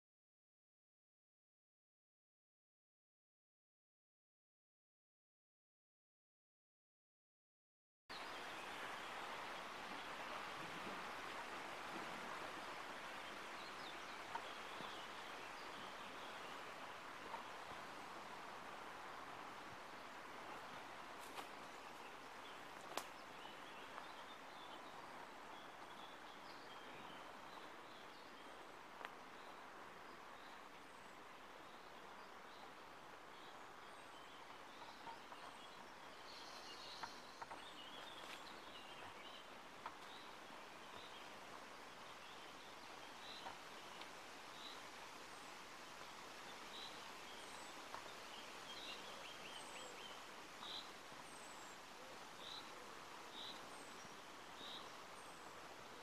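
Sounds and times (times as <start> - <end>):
low steady hiss: 8.1 - 56.0.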